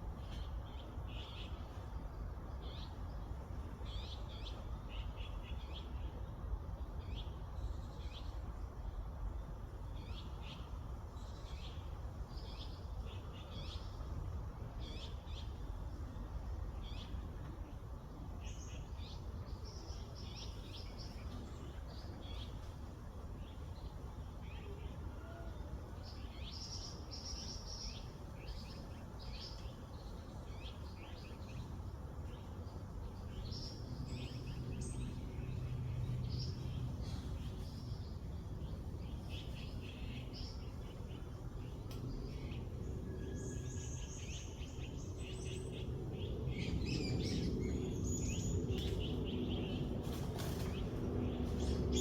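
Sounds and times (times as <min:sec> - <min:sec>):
low outdoor rumble: 0:00.0 - 0:52.0
songbirds chirping and twittering: 0:00.0 - 0:52.0.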